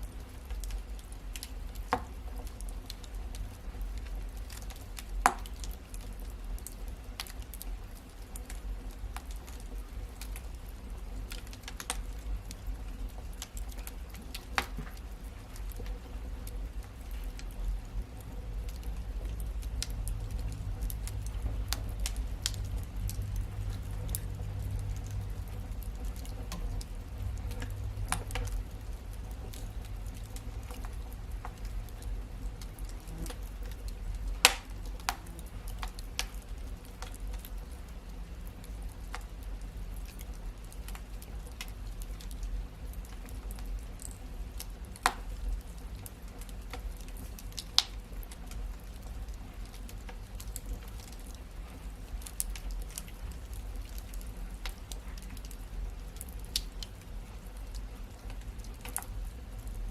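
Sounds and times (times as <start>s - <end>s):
fire popping and snapping: 0.0s - 59.9s
wood fire crackling: 0.0s - 59.9s.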